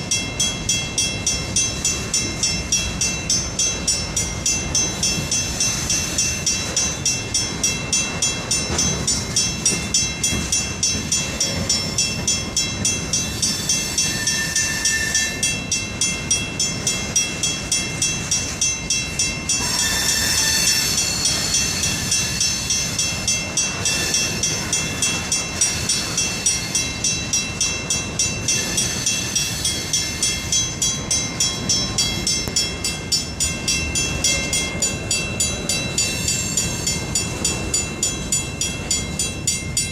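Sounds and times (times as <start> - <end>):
high thin ringing tones: 0.0 - 39.9
train wheels clacking over rail joints: 0.0 - 39.9.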